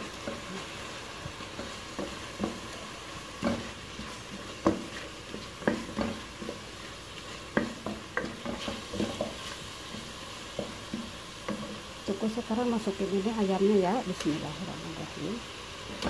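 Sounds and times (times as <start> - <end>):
wooden spoon scraping a pot: 0.0 - 13.0
food sizzling in oil: 0.0 - 16.0.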